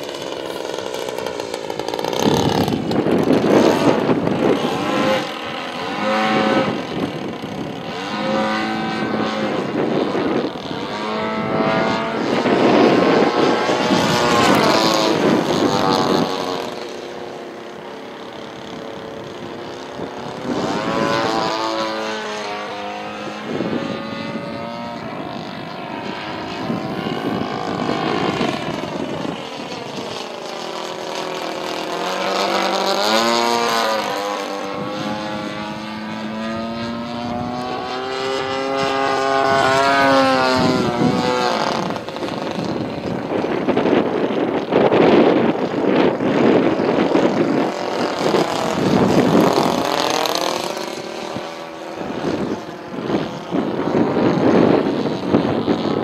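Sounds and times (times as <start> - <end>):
model plane engine and propeller: 0.0 - 56.0.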